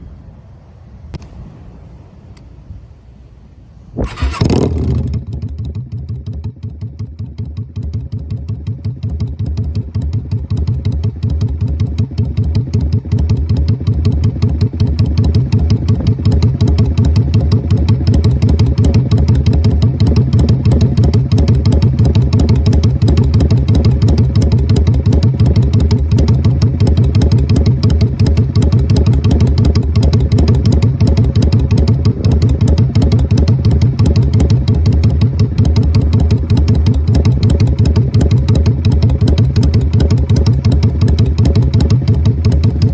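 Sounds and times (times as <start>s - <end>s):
motorcycle engine idling: 4.0s - 42.9s.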